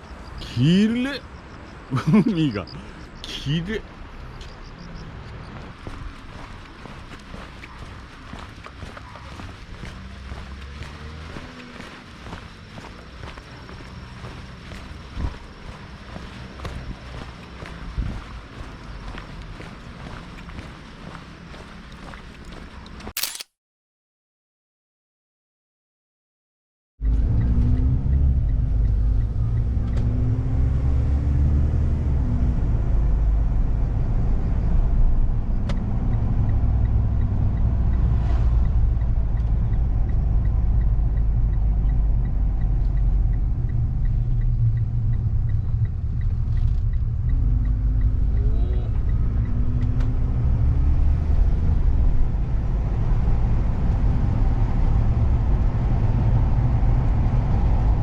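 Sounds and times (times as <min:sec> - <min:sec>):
minivan engine and road noise: 0:00.0 - 0:23.4, 0:27.0 - 0:58.0.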